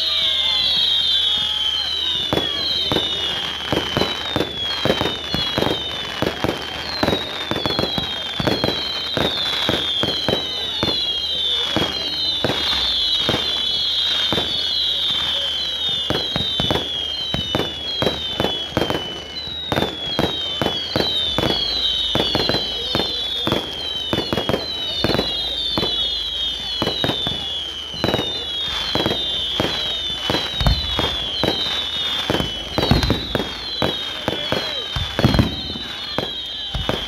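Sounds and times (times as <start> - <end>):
firework cracks and bangs: 0.0 - 37.0
firework whistles falling in pitch: 0.0 - 37.0.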